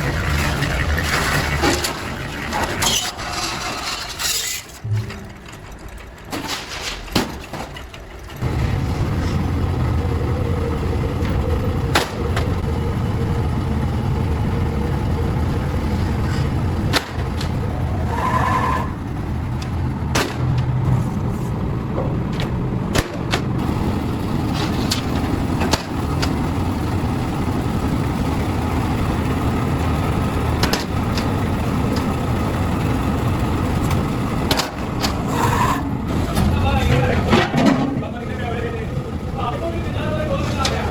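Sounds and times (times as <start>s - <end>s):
engine running with low rumble: 0.0s - 4.2s, 4.8s - 40.9s.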